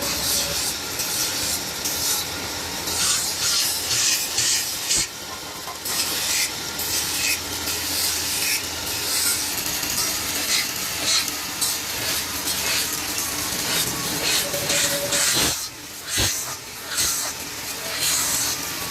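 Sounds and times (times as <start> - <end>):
rasping strokes on metal: 0.0 - 2.3, 2.9 - 5.1, 8.0 - 18.7.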